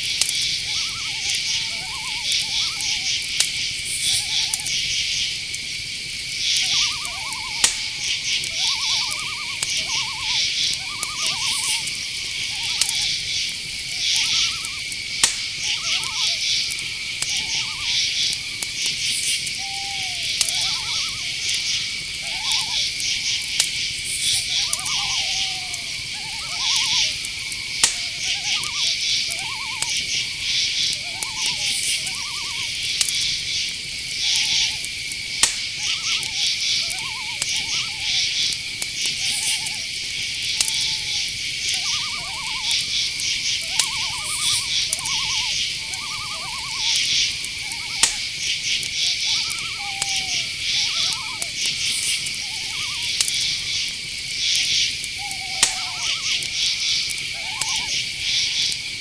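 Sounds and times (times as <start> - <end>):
owl hooting: 0.0 - 5.4, 6.4 - 58.8
crickets chirring: 0.0 - 59.0.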